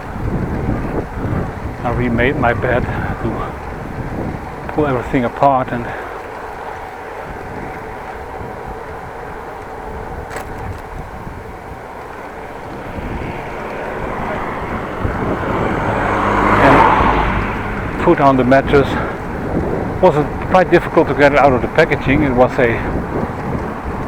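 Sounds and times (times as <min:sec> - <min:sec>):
motor vehicle passing: 0:00.0 - 0:24.0
steady rushing background: 0:00.0 - 0:24.0.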